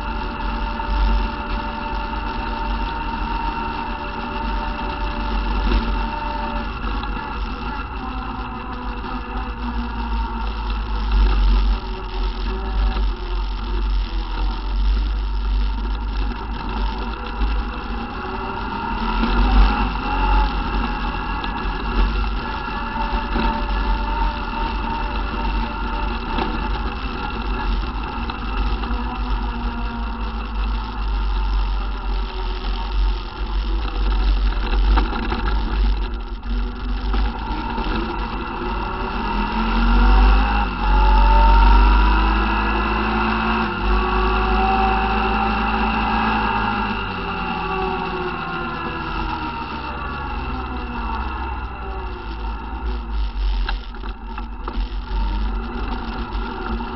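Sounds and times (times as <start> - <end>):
quad bike engine running: 0.0 - 56.9.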